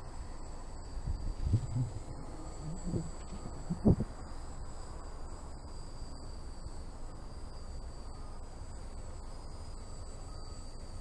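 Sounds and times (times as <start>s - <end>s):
drone flying with high whine: 0.0s - 11.0s.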